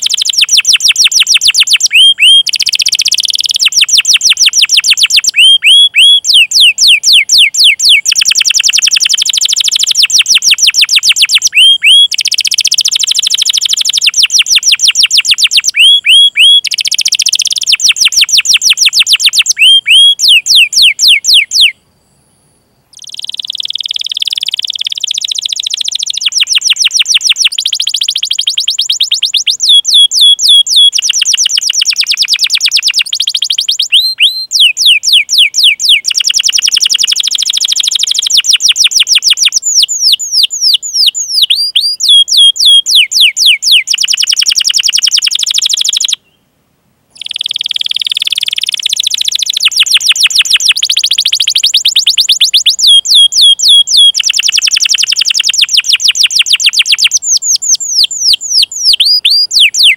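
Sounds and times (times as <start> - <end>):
canary singing trills: 0.0 - 21.8, 22.9 - 46.4, 47.2 - 59.9.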